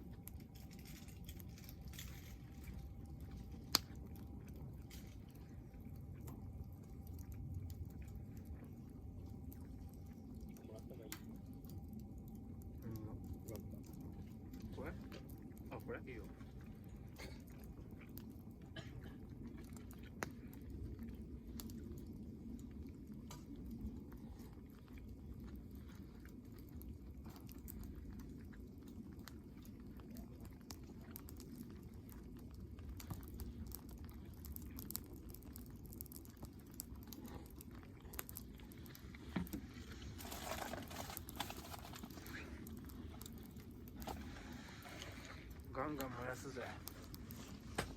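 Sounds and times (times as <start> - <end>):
campfire crackling and popping: 0.0 - 47.9
steady low rumble: 0.0 - 47.9.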